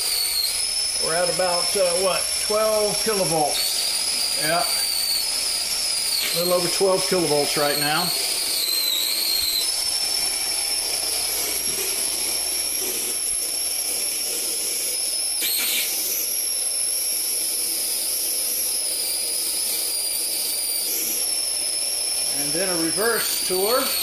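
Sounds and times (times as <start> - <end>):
electric arc hissing whine: 0.0 - 24.0.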